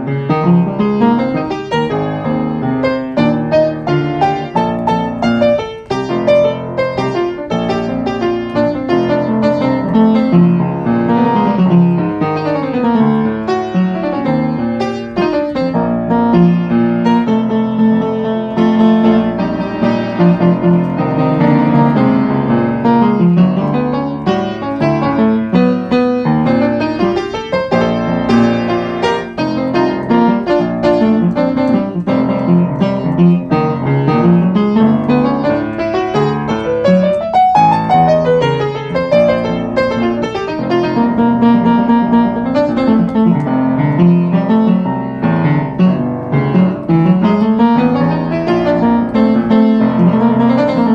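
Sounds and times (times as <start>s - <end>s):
piano music: 0.0s - 50.9s.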